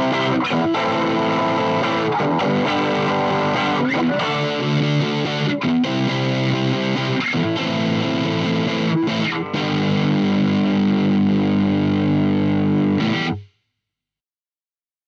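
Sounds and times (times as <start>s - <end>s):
distorted electric guitar chords: 0.0s - 13.4s.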